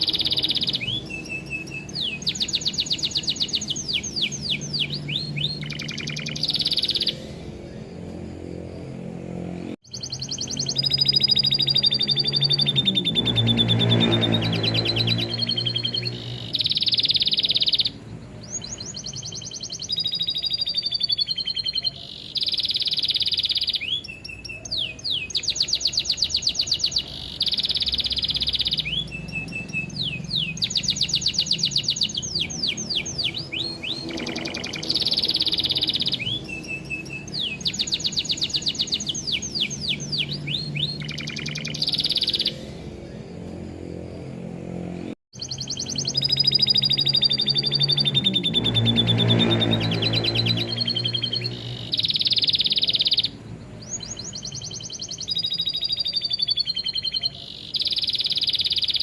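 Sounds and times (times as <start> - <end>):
bird chattering: 0.0 - 7.9, 9.9 - 42.8, 45.4 - 59.0
canary singing trills: 0.0 - 59.0.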